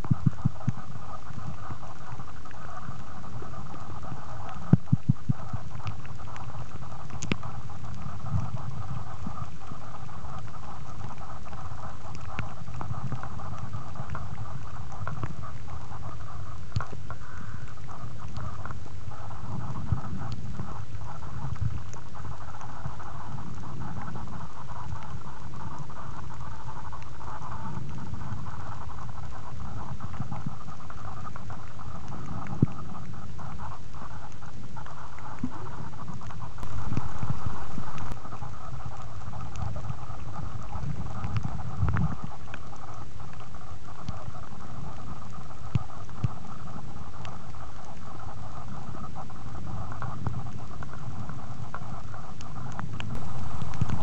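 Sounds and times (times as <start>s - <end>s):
muffled underwater rumble: 0.0s - 54.0s
small clicks and crackles: 0.0s - 54.0s.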